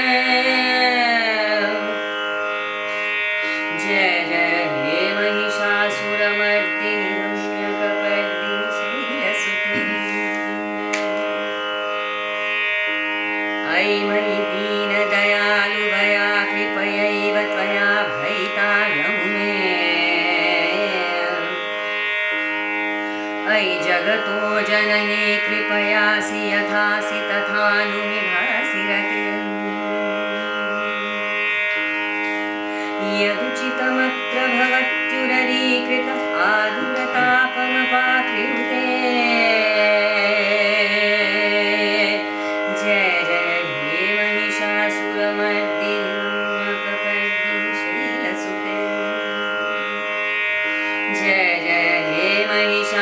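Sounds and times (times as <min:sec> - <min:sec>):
steady drone: 0:00.0 - 0:53.0
sliding melody: 0:00.2 - 0:53.0.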